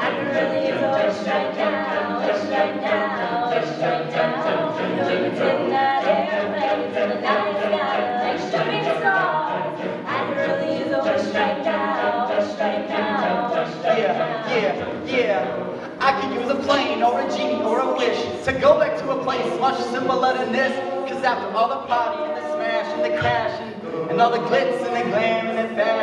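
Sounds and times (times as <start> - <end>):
a cappella group singing: 0.0 - 26.0.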